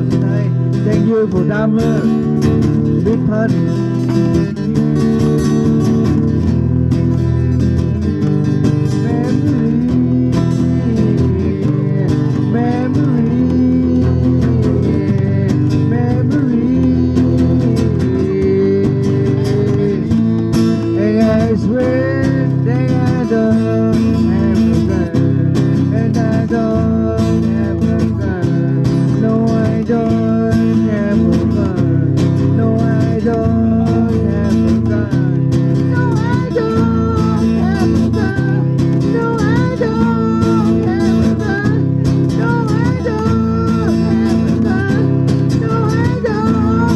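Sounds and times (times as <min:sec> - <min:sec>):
guitar: 0:00.0 - 0:46.9
live blues band playing: 0:00.0 - 0:46.9.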